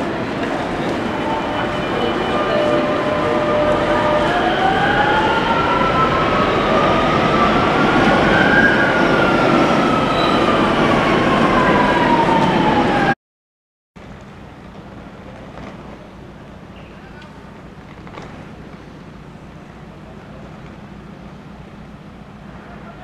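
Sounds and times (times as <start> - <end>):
train rumble and wheel noise: 0.0 - 13.2, 14.0 - 23.0.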